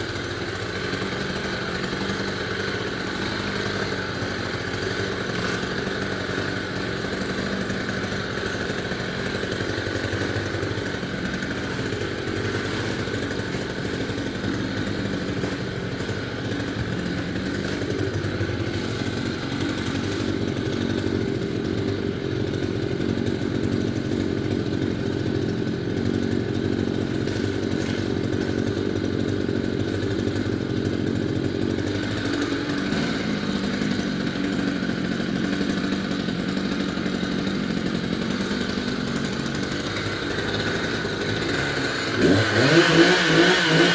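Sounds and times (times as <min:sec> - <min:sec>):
chainsaw engine running: 0:00.0 - 0:43.9.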